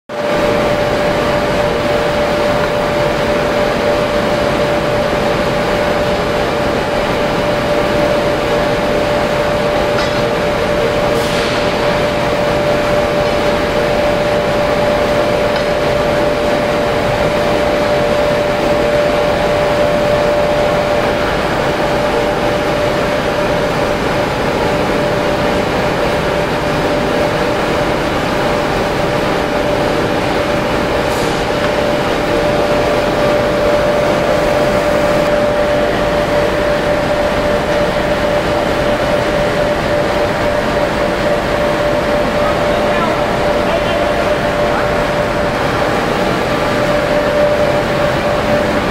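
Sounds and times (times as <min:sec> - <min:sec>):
furnace burner rushing: 0:00.1 - 0:48.9
constant humming tone: 0:00.2 - 0:48.9.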